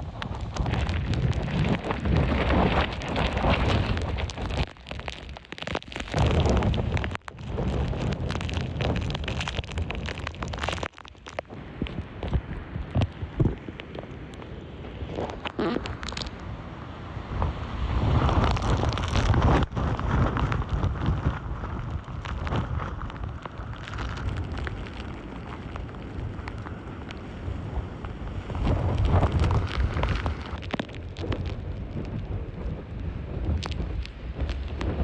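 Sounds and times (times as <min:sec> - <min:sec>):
strong wind gusting: 0:00.0 - 0:05.1, 0:06.1 - 0:10.7, 0:11.4 - 0:35.0
heavy rain: 0:00.0 - 0:35.0
wind buffeting microphone: 0:00.0 - 0:35.0.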